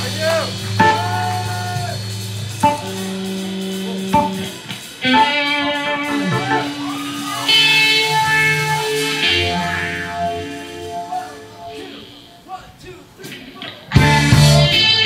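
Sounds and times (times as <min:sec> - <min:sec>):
electric guitar single notes: 0:00.0 - 0:12.5, 0:13.3 - 0:15.0
live reggae band: 0:00.0 - 0:15.0.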